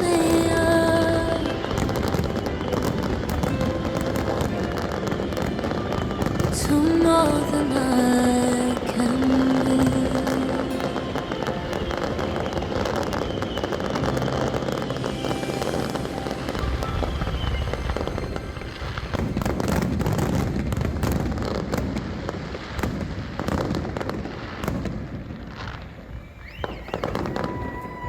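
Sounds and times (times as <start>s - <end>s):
fireworks bangs and crackles: 0.0s - 28.0s
fireworks whistling: 0.0s - 28.0s.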